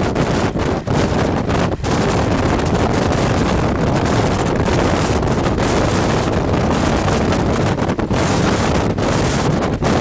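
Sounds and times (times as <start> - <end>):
passenger train running: 0.0 - 10.0
wind buffeting microphone: 0.0 - 10.0.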